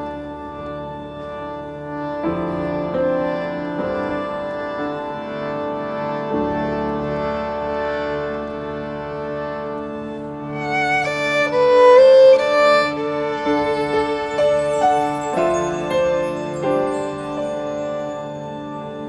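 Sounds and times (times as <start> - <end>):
slow instrumental music: 0.0 - 19.0.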